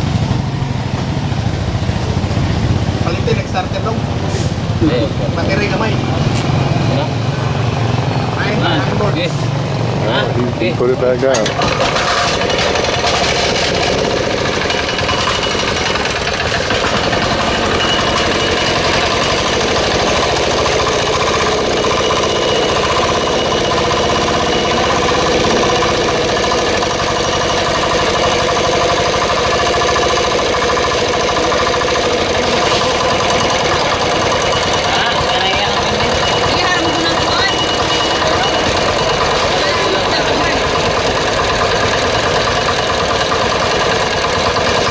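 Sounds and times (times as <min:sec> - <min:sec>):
small diesel engine running: 0:00.0 - 0:44.9.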